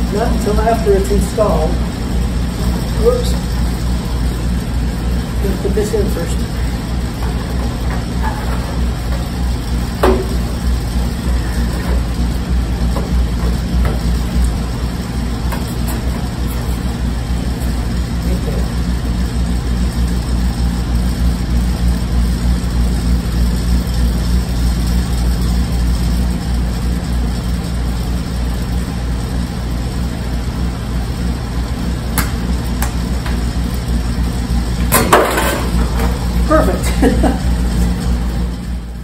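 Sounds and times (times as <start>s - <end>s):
loud motor hum: 0.0s - 39.0s.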